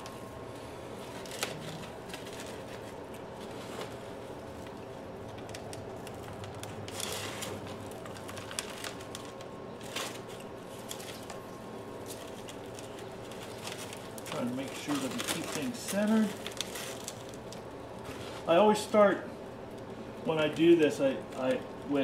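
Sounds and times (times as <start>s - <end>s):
potting mix rustling and crunching: 0.0s - 22.0s
steady faint hum: 0.0s - 22.0s.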